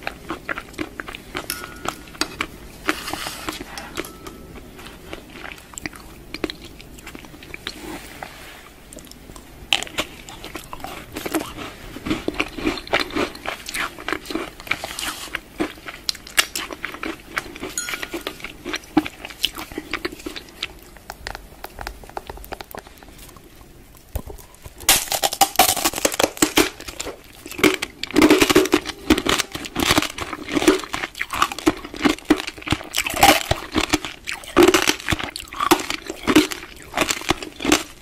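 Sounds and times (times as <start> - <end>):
crunching and crackling: 0.0 - 38.0.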